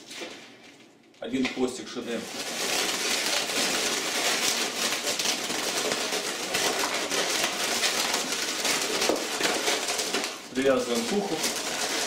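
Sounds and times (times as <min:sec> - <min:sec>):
balloons rubbing and crackling: 0:00.0 - 0:12.0.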